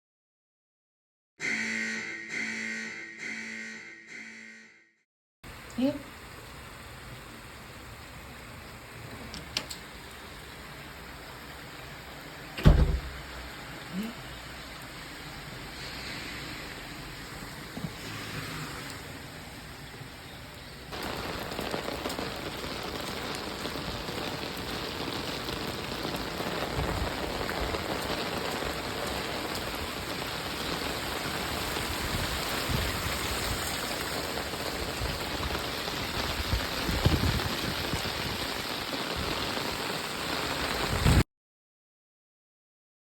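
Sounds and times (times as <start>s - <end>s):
heavy rain pouring: 5.5s - 41.2s.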